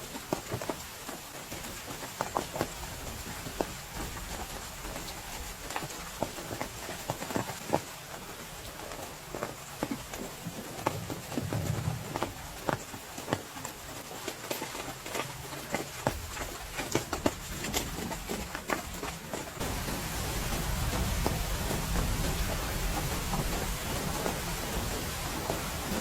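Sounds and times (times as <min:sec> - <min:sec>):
large raindrops tapping: 0:00.0 - 0:26.0
rain falling: 0:00.0 - 0:26.0.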